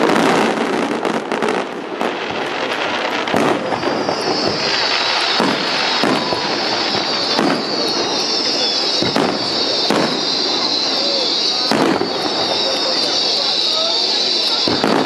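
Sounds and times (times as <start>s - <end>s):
fireworks rumble and crackle: 0.0s - 15.0s
fireworks shells bursting: 0.0s - 15.0s
high hiss of firework fountains: 0.0s - 15.0s.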